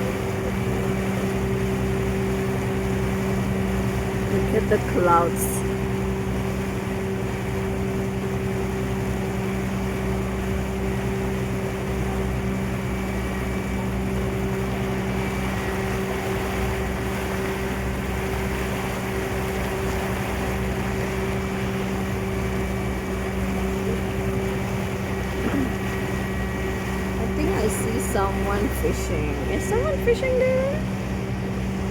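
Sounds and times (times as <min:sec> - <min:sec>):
boat engine droning: 0:00.0 - 0:31.9
water rushing: 0:00.0 - 0:31.9.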